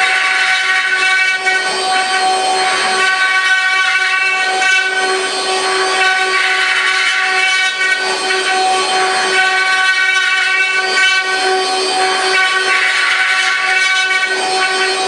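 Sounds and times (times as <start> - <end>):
router spindles whining: 0.0 - 15.0.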